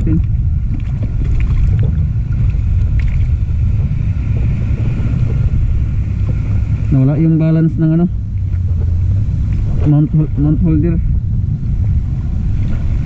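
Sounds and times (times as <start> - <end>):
surf: 0.0 - 13.0
wind rumble: 0.0 - 13.0.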